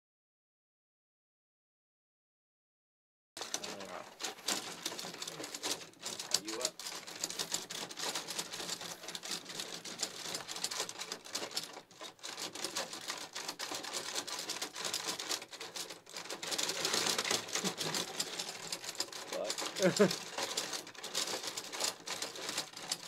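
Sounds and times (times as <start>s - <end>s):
plastic toy clattering: 3.4s - 23.0s.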